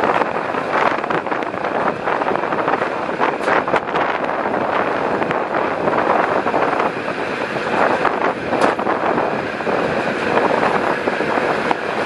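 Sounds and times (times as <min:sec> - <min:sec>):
train running noise inside carriage: 0:00.0 - 0:12.0.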